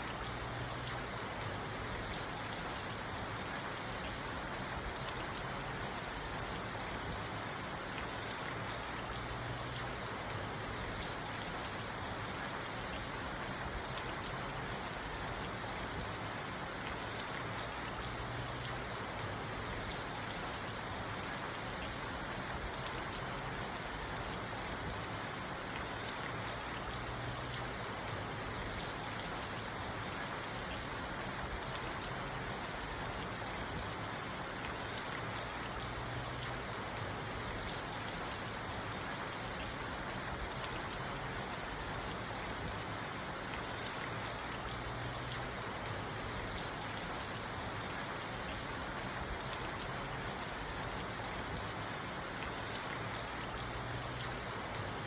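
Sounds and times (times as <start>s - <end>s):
rain on a car: 0.0s - 55.0s.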